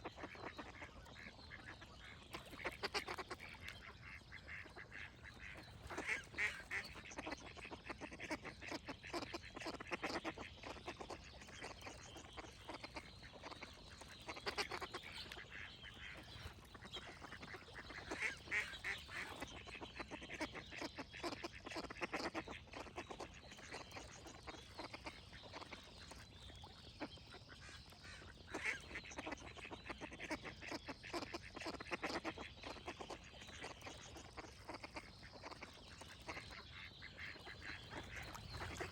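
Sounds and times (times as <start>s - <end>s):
faint songbird calls: 0.0s - 38.9s
ducks quacking: 0.1s - 26.1s, 27.1s - 38.9s.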